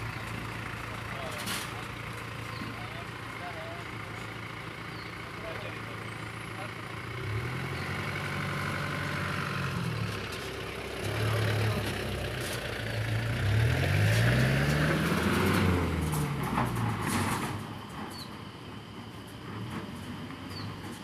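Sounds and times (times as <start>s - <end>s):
diesel truck engine pulling away: 0.0s - 21.0s.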